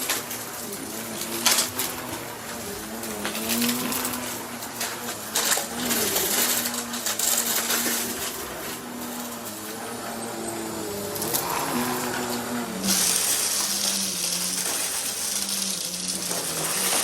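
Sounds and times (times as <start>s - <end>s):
debris rattling in vacuum: 0.0s - 17.0s
vacuum cleaner running: 0.0s - 17.0s.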